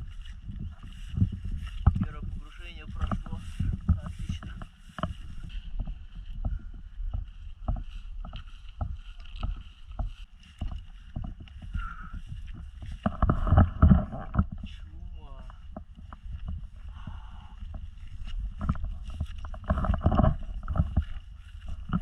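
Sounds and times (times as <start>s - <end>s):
footsteps through tall grass: 0.0s - 22.0s.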